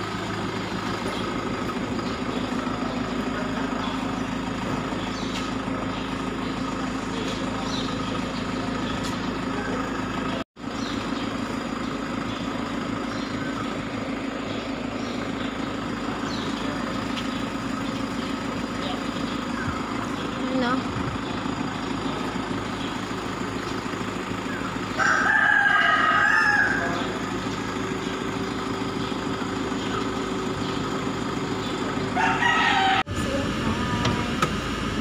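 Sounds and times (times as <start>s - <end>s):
vehicle engine idling: 0.0s - 35.0s.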